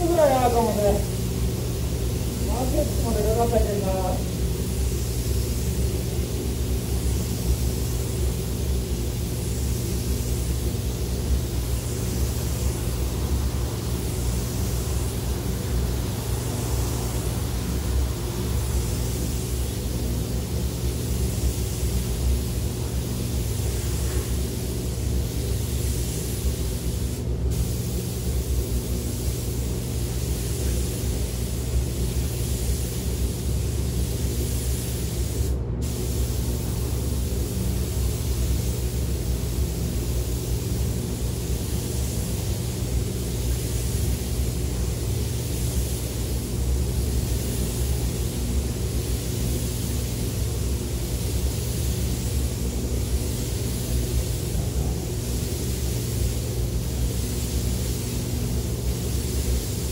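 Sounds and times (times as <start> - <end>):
steady low hum: 0.0 - 59.8
spray gun hissing: 0.0 - 59.9.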